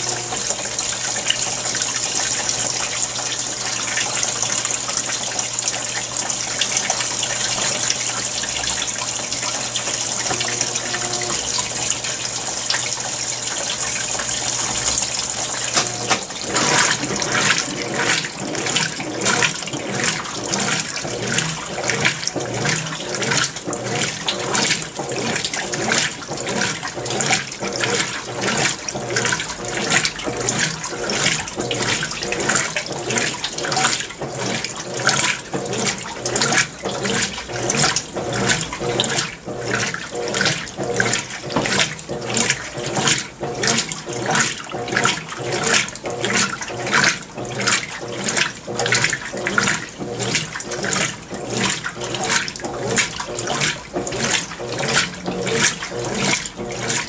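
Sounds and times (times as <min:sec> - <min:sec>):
washing machine agitating: 0:00.0 - 0:57.0
water sloshing: 0:06.0 - 0:57.0.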